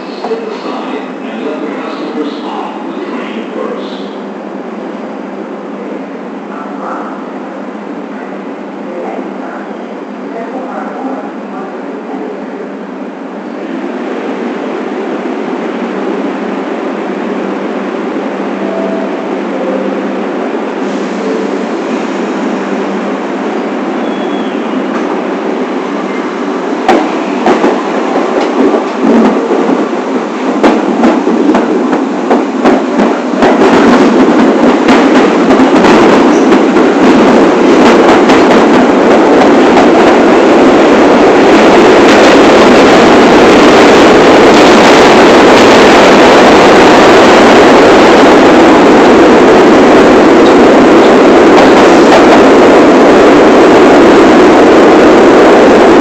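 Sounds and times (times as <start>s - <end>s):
subway train on rails: 0.0s - 56.0s.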